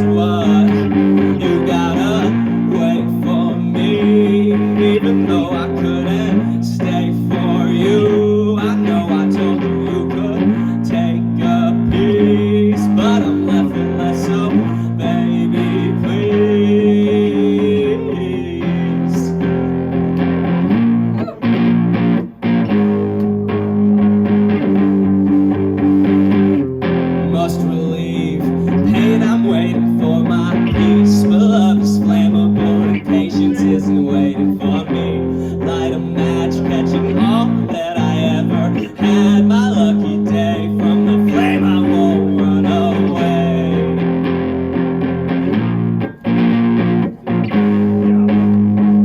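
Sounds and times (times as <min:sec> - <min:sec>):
punk song on guitar and bass: 0:00.0 - 0:49.0.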